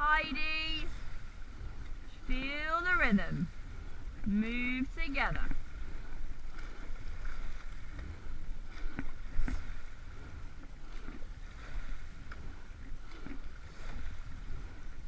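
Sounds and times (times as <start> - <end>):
oars knocking: 0.0 - 15.0
water rushing along hull: 0.0 - 15.0
wind buffeting microphone: 0.0 - 15.0.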